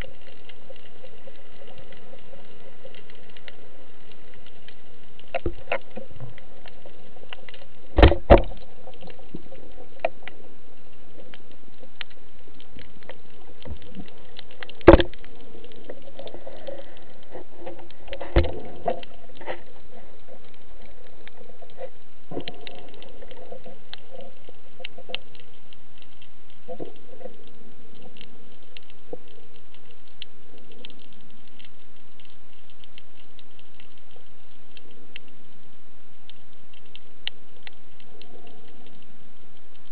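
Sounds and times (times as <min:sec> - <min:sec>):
underwater crackling and ticking: 0:00.0 - 0:39.9.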